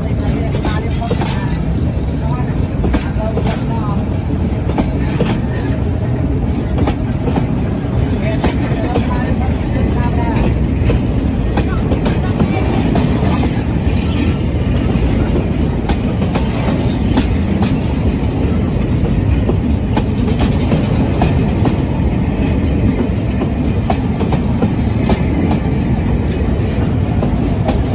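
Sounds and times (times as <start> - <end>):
steel wheels rumbling on rails: 0.0 - 27.9.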